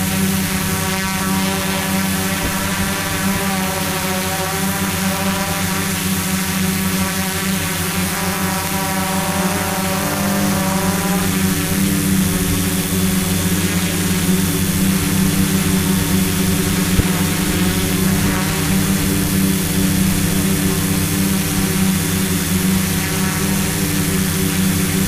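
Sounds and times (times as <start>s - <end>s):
drone motors humming: 0.0s - 25.0s.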